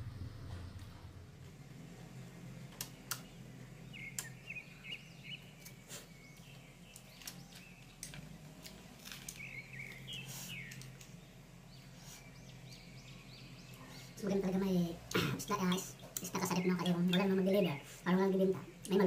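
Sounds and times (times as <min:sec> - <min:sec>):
small birds chirping: 0:01.9 - 0:19.0.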